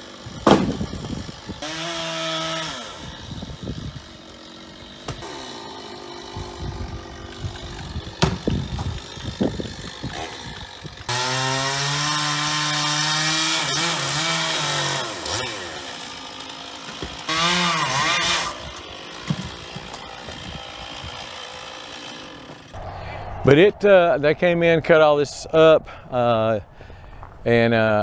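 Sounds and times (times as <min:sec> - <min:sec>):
chainsaw cutting wood: 0:00.0 - 0:22.8.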